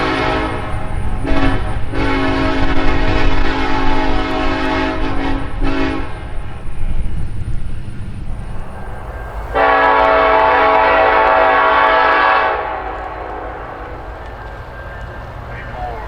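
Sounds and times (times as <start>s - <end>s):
locomotive air horn blasts: 0.0s - 6.7s, 8.6s - 16.0s
train low rumble: 0.0s - 16.0s.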